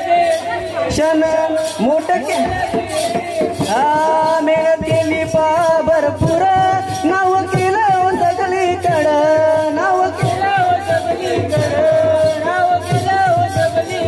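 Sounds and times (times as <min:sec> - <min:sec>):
drum strokes: 0:00.0 - 0:14.0.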